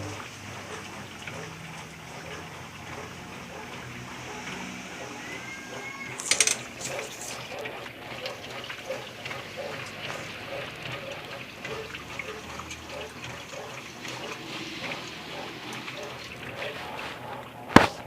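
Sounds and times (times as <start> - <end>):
water running in washing machine: 0.0 - 18.0.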